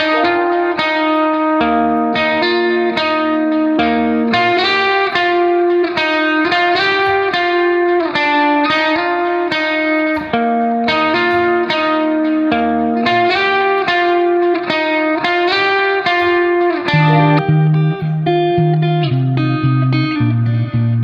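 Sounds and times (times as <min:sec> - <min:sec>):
guitar plucking melody: 0:00.0 - 0:21.0.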